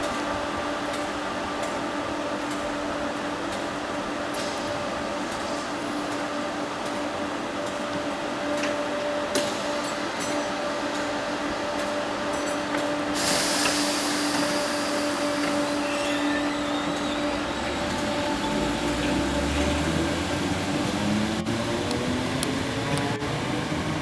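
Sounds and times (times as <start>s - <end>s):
train hiss: 0.0s - 21.5s
electric train hum: 0.0s - 24.0s
low train rumble: 0.0s - 24.0s.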